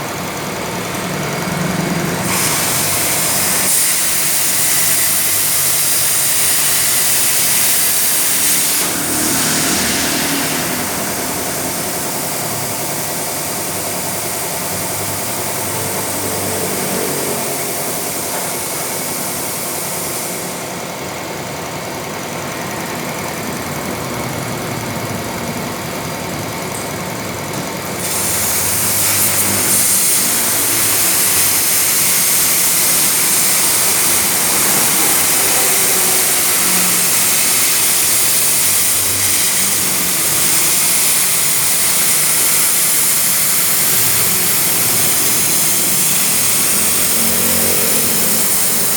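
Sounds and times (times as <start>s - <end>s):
cutting machine hiss: 0.0s - 48.9s
machine drone: 0.0s - 48.9s.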